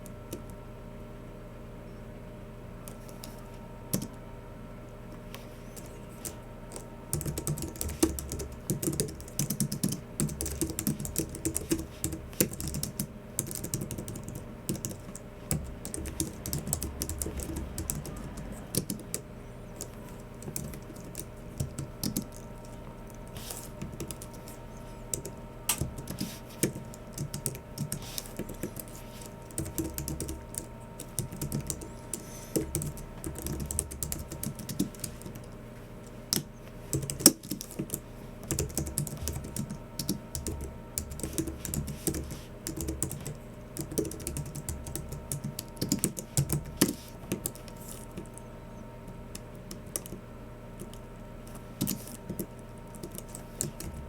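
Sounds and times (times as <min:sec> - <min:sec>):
faint steady hum: 0:00.0 - 0:54.0
soft keyboard keystrokes: 0:05.4 - 0:48.5, 0:49.1 - 0:50.2, 0:50.8 - 0:54.0.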